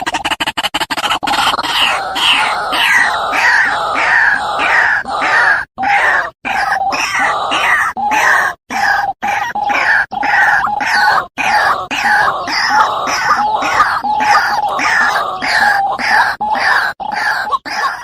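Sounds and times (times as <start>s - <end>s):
bird harsh croaking call: 0.0s - 18.0s.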